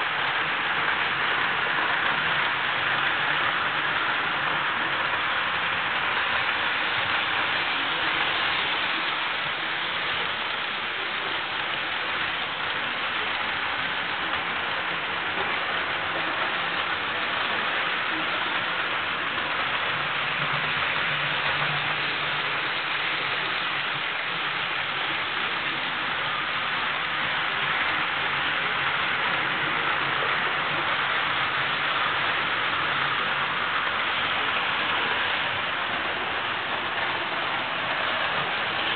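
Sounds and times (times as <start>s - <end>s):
model trains whirring on track: 0.0s - 38.9s.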